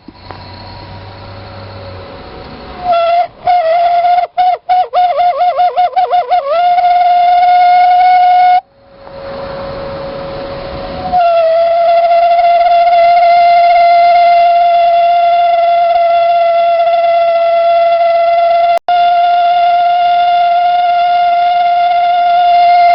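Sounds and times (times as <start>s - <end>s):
heater whistle-like howl: 0.2s - 22.9s.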